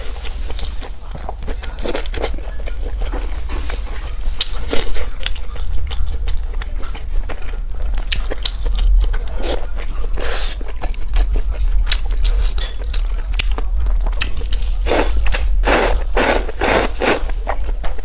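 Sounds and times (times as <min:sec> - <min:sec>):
biting and chewing food: 0:00.0 - 0:18.0
steady low hum: 0:00.0 - 0:18.0.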